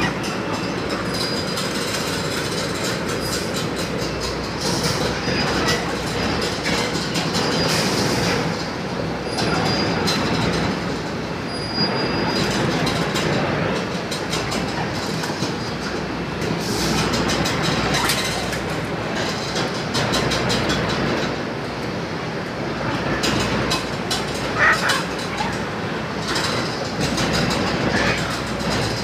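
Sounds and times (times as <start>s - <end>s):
conveyor machinery clattering: 0.0s - 29.0s.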